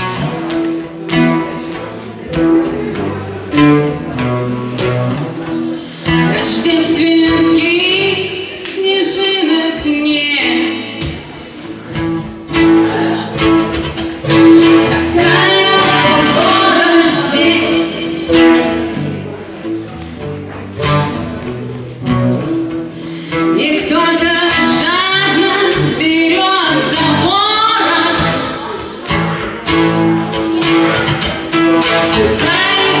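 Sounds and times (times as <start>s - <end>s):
plucked acoustic guitar: 0.0s - 33.0s.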